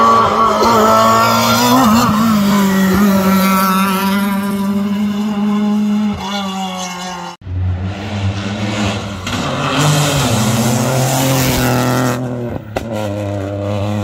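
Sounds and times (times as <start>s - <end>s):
rally car engine at full throttle: 0.0s - 14.0s.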